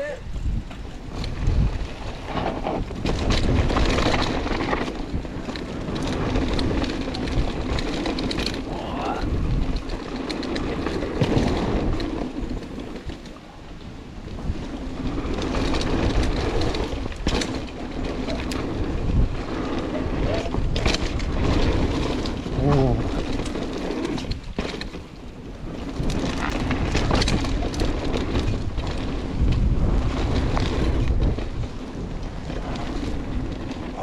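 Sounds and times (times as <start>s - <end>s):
bike tyre roar on dirt: 0.0s - 34.0s
wind buffeting microphone: 0.0s - 34.0s
bike clattering over bumps: 0.3s - 34.0s.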